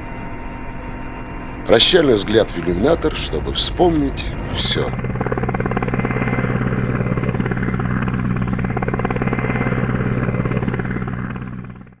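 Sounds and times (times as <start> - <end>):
helicopter engine drone: 0.0 - 12.0
helicopter rotor beat: 0.6 - 12.0.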